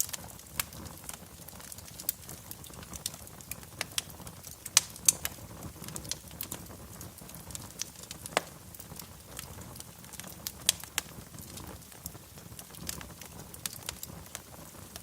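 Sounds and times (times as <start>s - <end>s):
rumble of flame: 0.0s - 15.0s
wood fire crackling: 0.0s - 15.0s.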